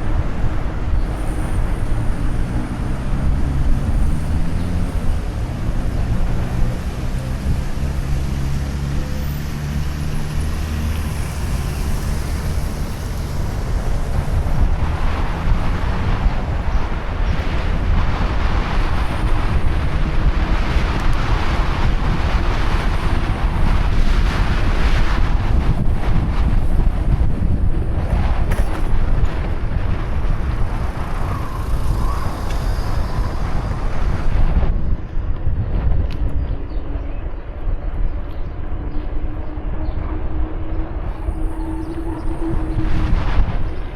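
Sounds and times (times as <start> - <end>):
low rumble: 0.0 - 43.9
wind on microphone: 0.0 - 43.9.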